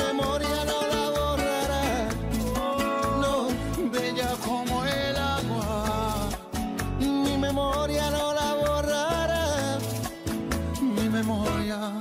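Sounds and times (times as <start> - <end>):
pop song with beat: 0.0 - 12.0.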